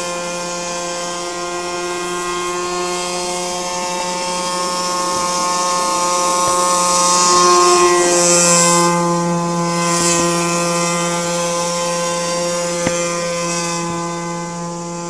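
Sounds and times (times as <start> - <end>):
model boat engine and propeller drone: 0.0 - 15.0.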